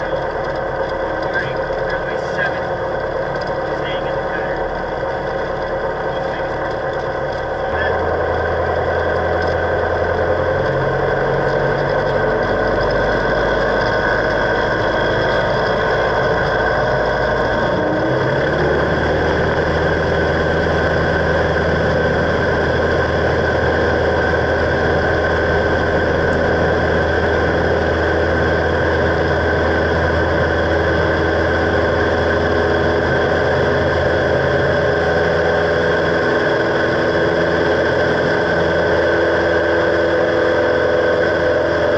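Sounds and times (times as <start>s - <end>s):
airplane engine drone: 0.0s - 41.9s.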